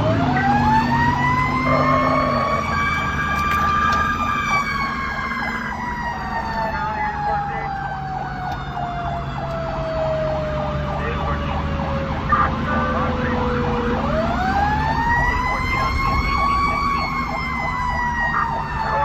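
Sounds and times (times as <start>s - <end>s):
fire engine siren wailing: 0.0s - 19.0s
truck engine rumble: 0.0s - 19.0s
warbling siren tone: 0.0s - 19.0s.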